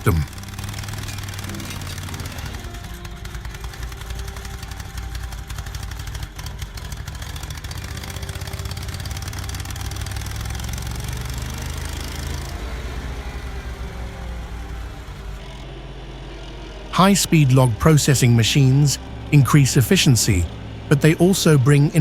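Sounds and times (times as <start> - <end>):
heavy machine engine pulsing: 0.0 - 22.0.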